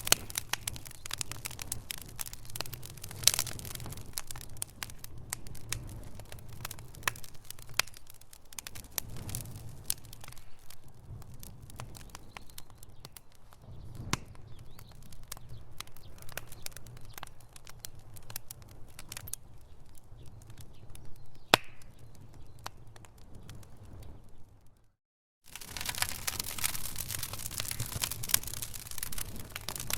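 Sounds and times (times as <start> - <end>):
low fire rumble: 0.0 - 24.9, 25.5 - 29.9
fire crackling and popping: 0.0 - 29.9.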